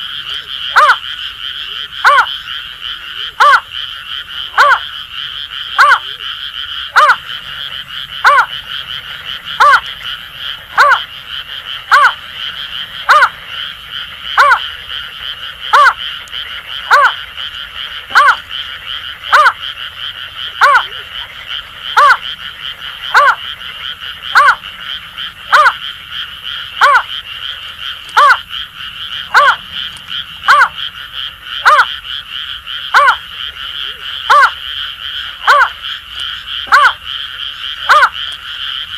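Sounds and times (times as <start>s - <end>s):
frogs chorus calling: 0.0s - 38.9s.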